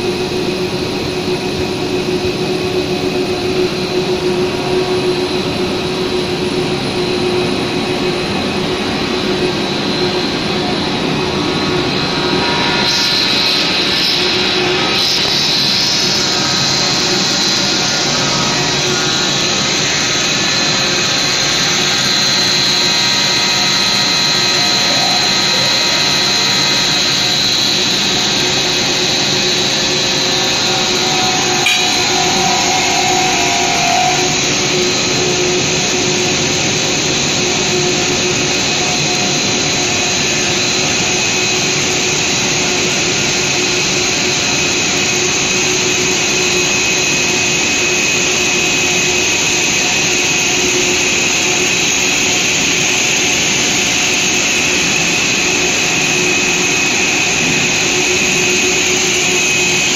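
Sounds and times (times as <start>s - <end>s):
high machine whine: 0.0s - 59.9s
loud machine drone: 0.0s - 59.9s.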